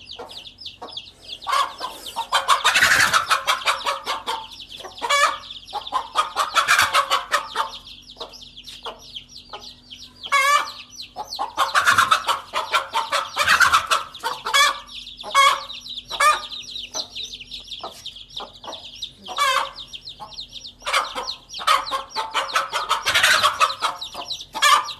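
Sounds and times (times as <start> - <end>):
chicks peeping: 0.0 - 24.9
hen clucking: 0.0 - 24.9.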